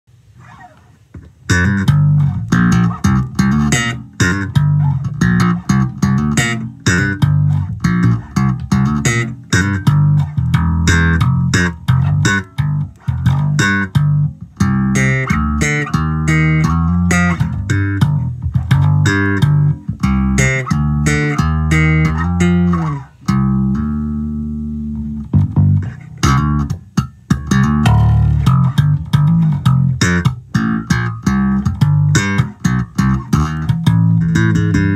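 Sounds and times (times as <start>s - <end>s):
electric bass plucked notes: 0.2s - 34.9s.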